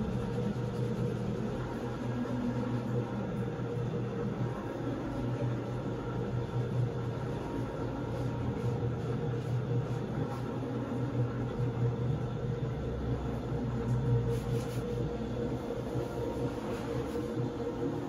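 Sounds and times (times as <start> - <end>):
floor scrubbing machine humming: 0.0 - 18.0.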